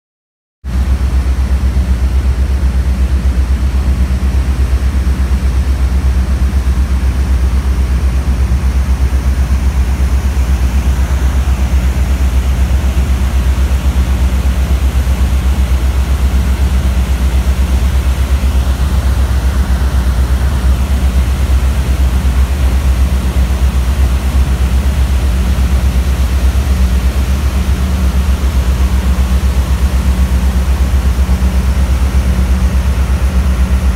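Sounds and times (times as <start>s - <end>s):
diesel machinery engine rumble: 0.7s - 33.9s.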